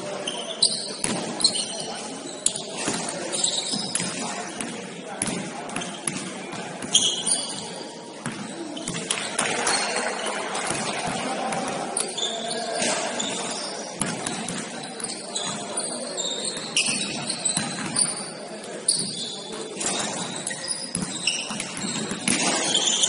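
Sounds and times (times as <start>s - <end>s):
sneakers squeaking on court: 0.0s - 23.0s
voices echoing in hall: 0.0s - 23.0s.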